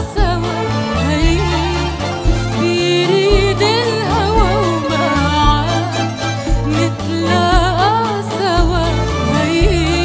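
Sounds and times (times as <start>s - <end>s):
live band accompaniment: 0.0s - 10.0s
woman singing: 0.0s - 10.0s.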